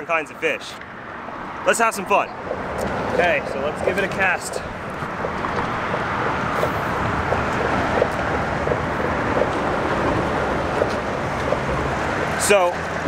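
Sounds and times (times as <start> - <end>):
traffic rushing on bridge: 0.0 - 13.0
wind on microphone: 2.4 - 13.0.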